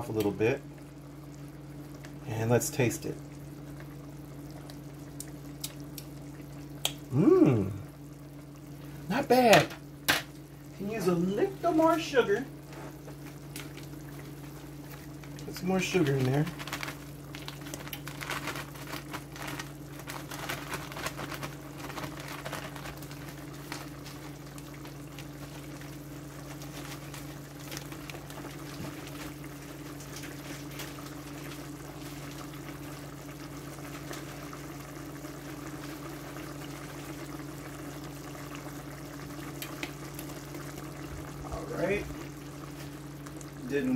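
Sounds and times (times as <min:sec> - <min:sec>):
broth hissing and bubbling: 0:00.0 - 0:43.9
low steady hum: 0:00.0 - 0:43.9.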